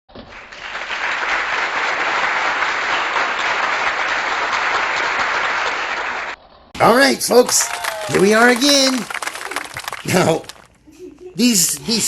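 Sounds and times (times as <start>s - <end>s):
crowd applause: 0.2s - 10.7s.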